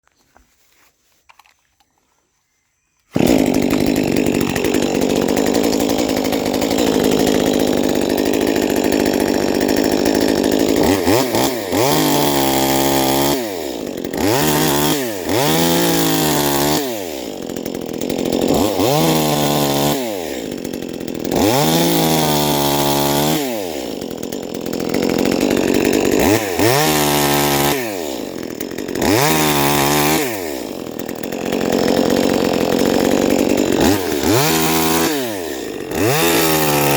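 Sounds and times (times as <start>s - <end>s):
chainsaw engine revving: 3.1s - 36.9s.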